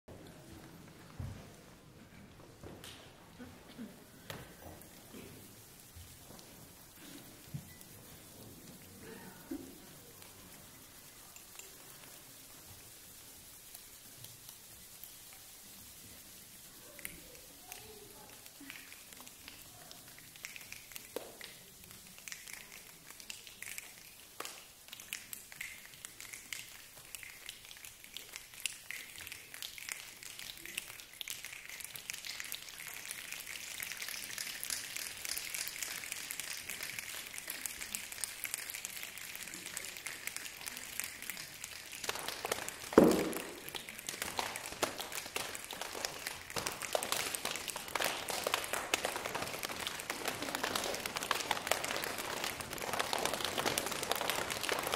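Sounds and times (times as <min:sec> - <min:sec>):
people snapping tapping and clapping: 0:02.6 - 0:54.9.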